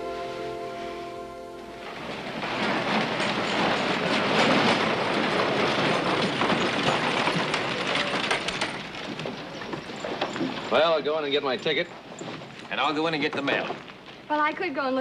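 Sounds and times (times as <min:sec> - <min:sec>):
hooves clopping: 0:01.6 - 0:15.0
wooden wheels rattling: 0:01.6 - 0:15.0.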